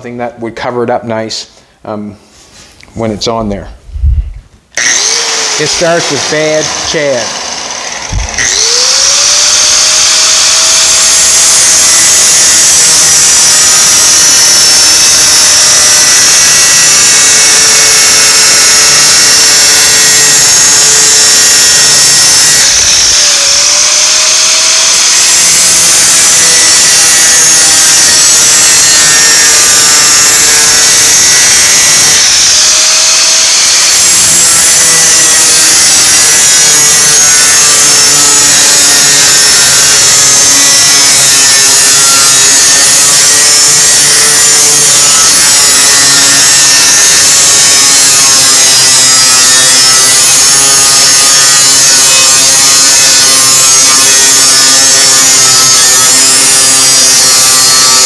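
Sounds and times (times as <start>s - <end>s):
angle grinder cutting metal: 4.8s - 58.0s.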